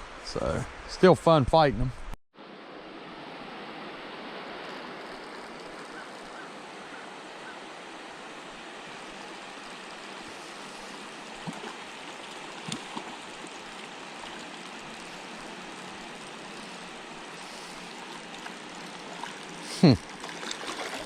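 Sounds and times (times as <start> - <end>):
river flowing over rocks: 2.4 - 21.0.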